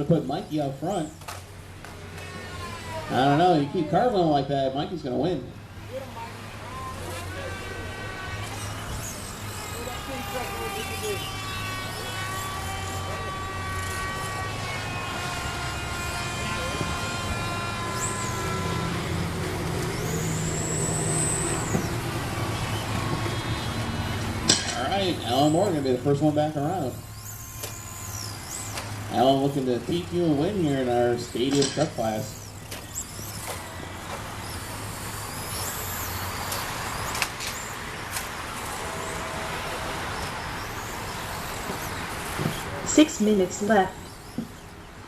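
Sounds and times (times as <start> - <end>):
electric motor whine: 0.0 - 4.4, 5.8 - 45.0
steady noisy background: 0.0 - 45.0.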